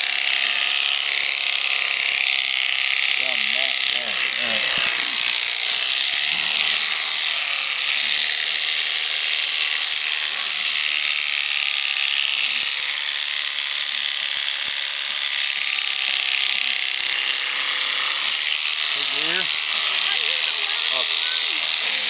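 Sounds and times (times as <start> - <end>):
electric shears buzzing: 0.0 - 22.0.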